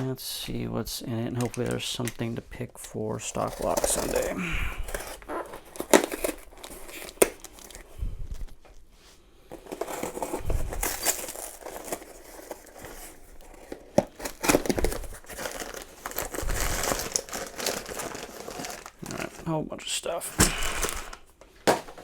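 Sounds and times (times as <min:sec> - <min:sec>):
cardboard crinkling and tearing: 0:01.2 - 0:08.6, 0:09.5 - 0:22.0.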